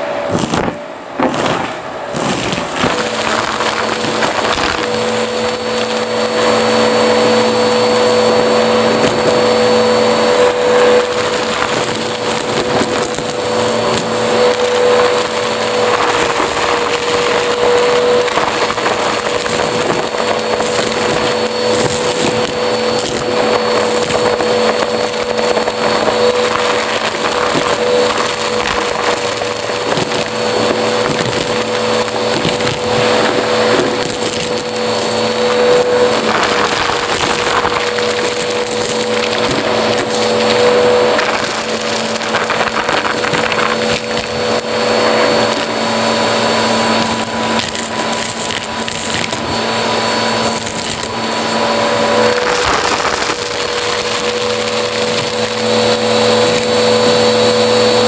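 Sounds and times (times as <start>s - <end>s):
vacuum cleaner humming whine: 0.0s - 58.0s
debris rattling up nozzle: 0.3s - 58.0s.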